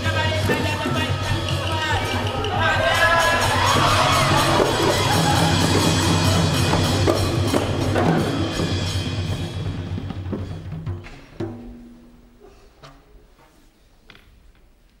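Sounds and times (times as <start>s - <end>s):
frame drums and barrel drum: 0.0s - 12.5s.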